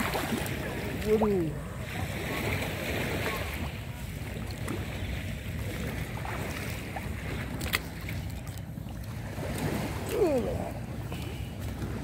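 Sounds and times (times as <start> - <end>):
boat low rumble: 0.0 - 12.0
wind and water wash: 0.0 - 12.0.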